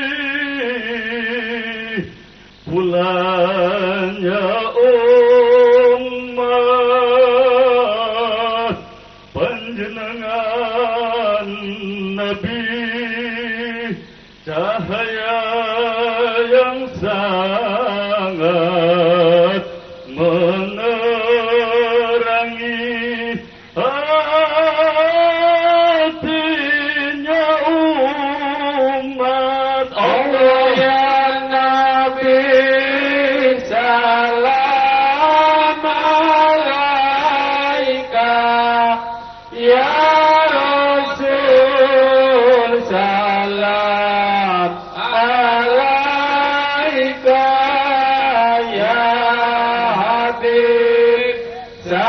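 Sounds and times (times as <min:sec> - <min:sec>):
man chanting through pa: 0:00.0 - 0:52.0.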